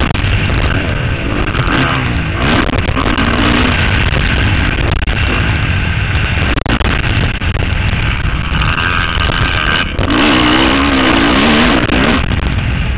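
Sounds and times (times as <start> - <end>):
motocross bike engine: 0.0 - 12.9.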